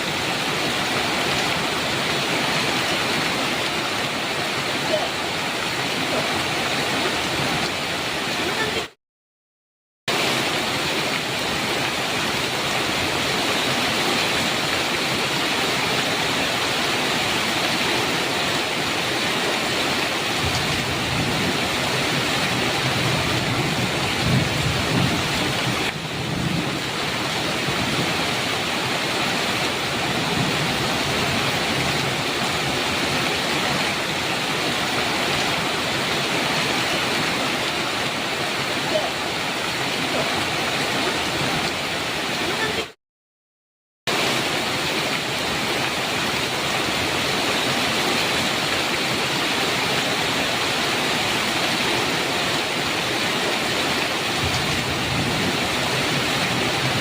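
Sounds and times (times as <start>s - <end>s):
heavy rain on a metal roof: 0.0s - 9.0s, 10.1s - 43.0s, 44.1s - 57.0s.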